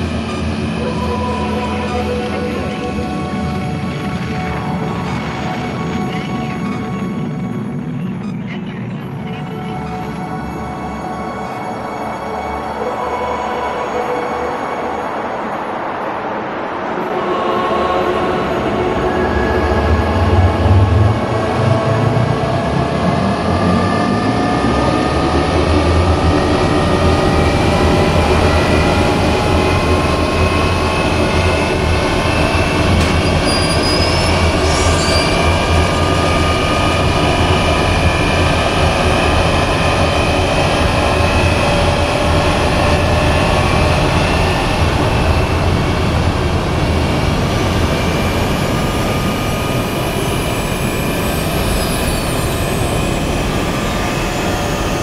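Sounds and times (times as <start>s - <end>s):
falling engine whine: 8.8s - 55.0s.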